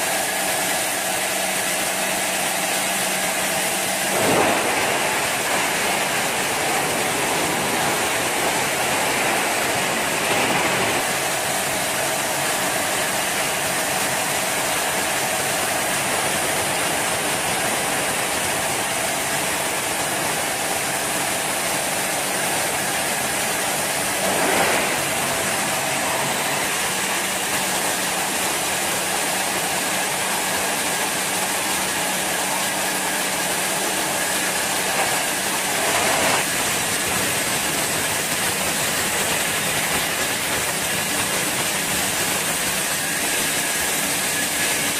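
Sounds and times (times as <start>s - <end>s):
industrial crusher shredding metal: 0.0s - 44.9s.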